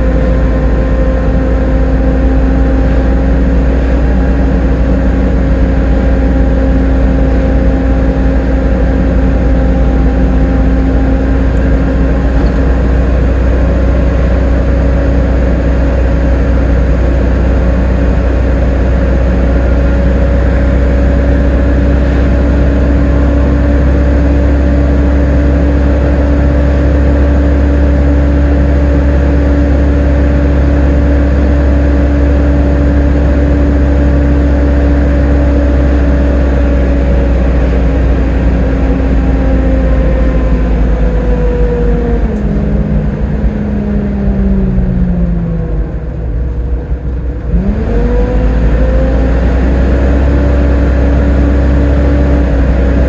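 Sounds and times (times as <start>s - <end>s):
bus drivetrain whine: 0.0s - 53.0s.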